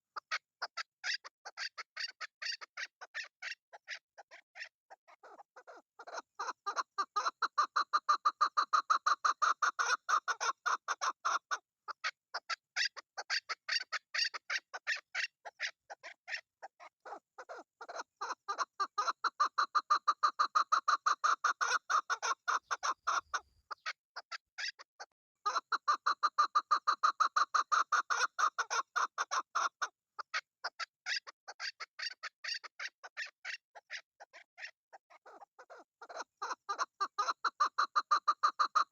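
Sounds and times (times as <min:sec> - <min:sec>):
partridge clucking calls: 0:00.0 - 0:38.9.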